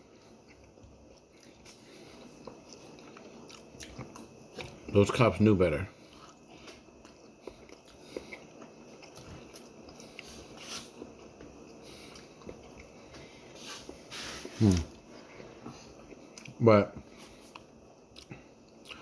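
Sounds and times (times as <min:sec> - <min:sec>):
person chewing: 0:00.0 - 0:05.0, 0:06.0 - 0:19.0.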